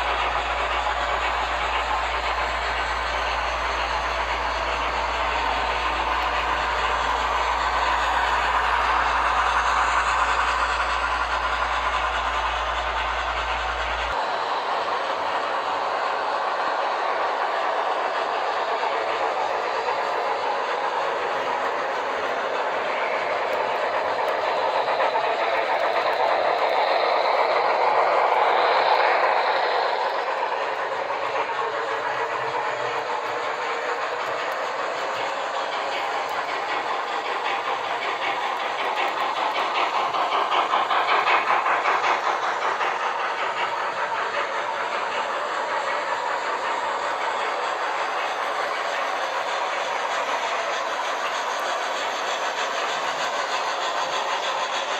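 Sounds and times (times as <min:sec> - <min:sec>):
model train rattling and clicking: 0:00.0 - 0:54.9.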